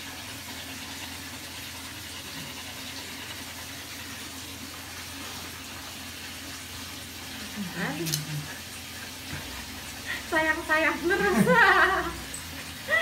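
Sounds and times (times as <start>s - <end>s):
water running from hose: 0.0s - 13.0s.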